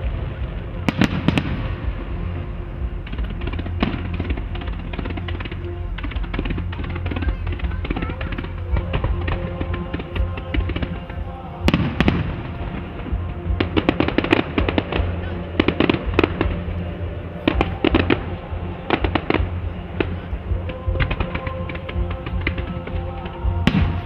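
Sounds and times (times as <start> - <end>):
background music: 0.0 - 24.0
fireworks crackling and popping: 0.0 - 24.0.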